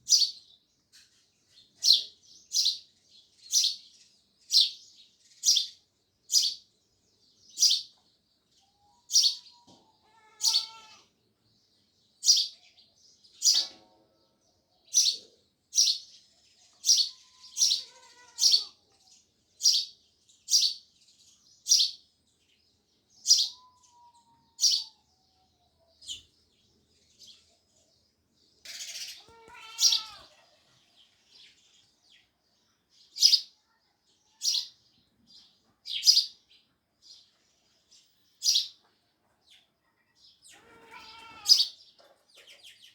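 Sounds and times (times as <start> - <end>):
harsh sparrow chatter: 0.0 - 6.6, 7.5 - 8.0, 9.0 - 11.1, 12.2 - 14.0, 14.9 - 22.5, 23.2 - 25.0, 25.8 - 36.4, 37.0 - 42.9
sparrows chirping: 0.0 - 42.9.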